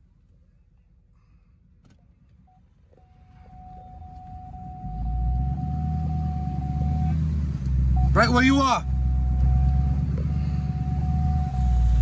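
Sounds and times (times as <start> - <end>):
pickup truck engine rumble: 0.0 - 12.0.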